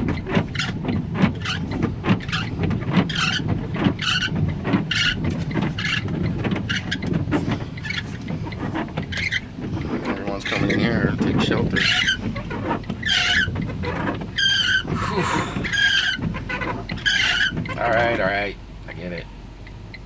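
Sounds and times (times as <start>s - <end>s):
road and weather noise: 0.0s - 20.0s
short squeak: 0.1s - 18.3s.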